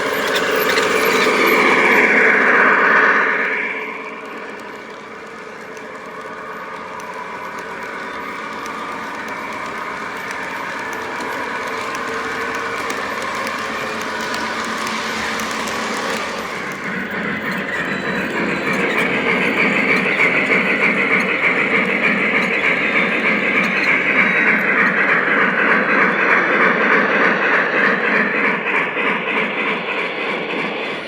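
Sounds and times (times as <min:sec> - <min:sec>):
rapid clicking over rail joints: 0:00.0 - 0:25.1
model train wheels rumbling: 0:00.0 - 0:27.0, 0:30.8 - 0:31.0.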